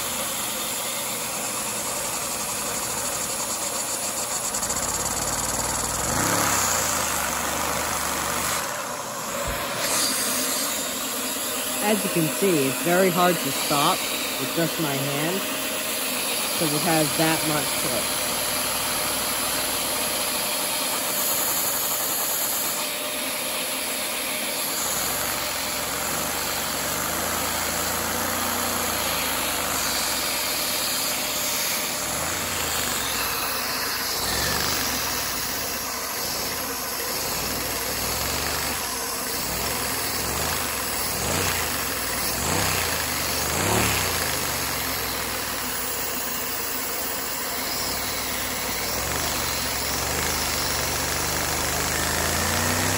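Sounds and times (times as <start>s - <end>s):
toy vacuum engine clattering: 0.0s - 52.9s.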